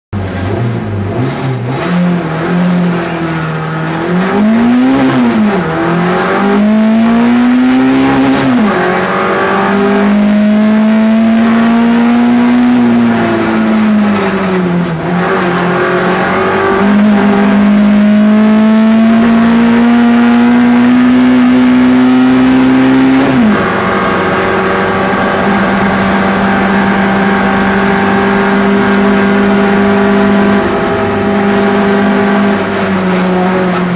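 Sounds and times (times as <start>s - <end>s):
race car engine revving: 0.2s - 33.9s.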